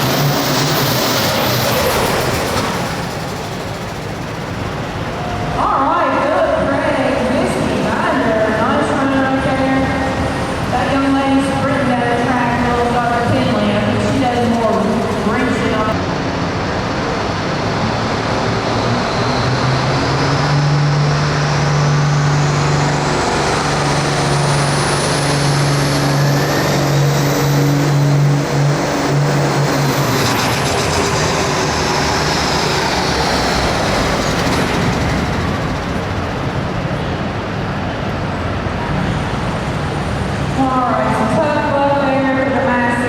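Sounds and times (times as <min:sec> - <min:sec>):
tractor diesel engine roaring: 0:00.0 - 0:41.4.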